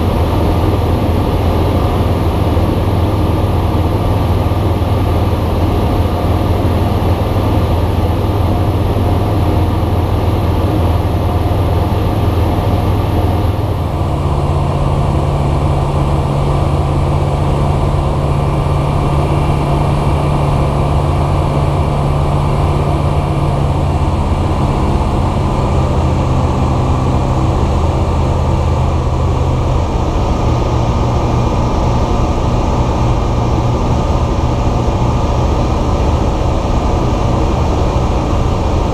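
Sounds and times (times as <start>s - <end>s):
light aircraft engine: 0.0s - 38.9s.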